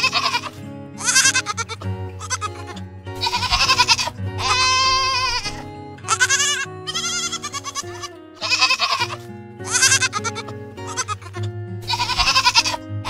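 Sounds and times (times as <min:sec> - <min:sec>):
young goat bleating: 0:00.0 - 0:12.8
background music: 0:00.0 - 0:13.0.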